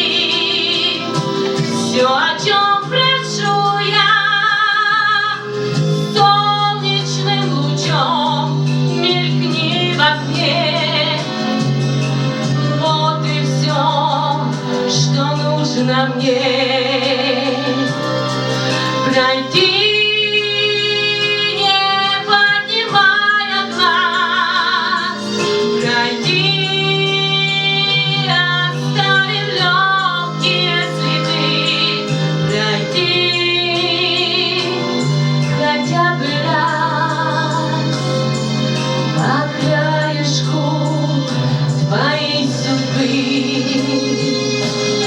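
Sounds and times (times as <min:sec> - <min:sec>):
woman singing with vibrato: 0:00.0 - 0:11.6, 0:12.4 - 0:45.0
backing music: 0:00.0 - 0:45.0.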